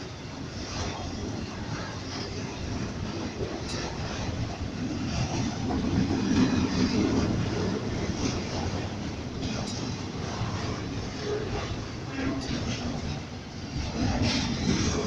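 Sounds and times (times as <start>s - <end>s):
low train rumble: 0.0s - 15.0s
train wheels clacking on rails: 0.0s - 15.0s.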